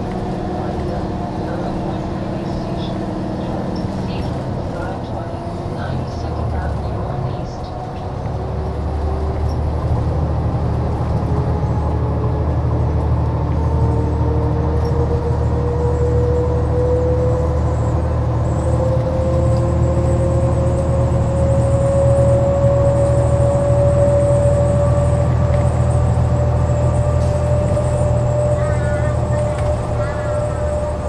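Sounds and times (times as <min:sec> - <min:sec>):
diesel bus engine hum: 0:00.0 - 0:31.0.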